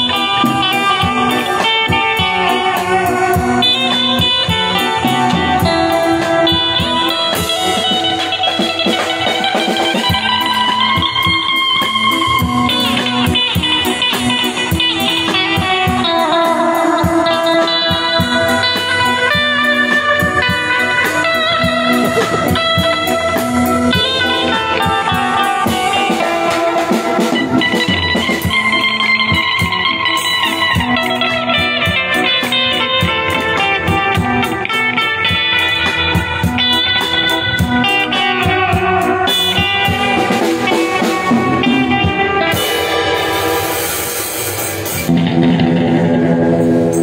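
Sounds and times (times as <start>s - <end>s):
drum kit beat: 0.0s - 47.0s
electric guitar melody: 0.0s - 47.0s.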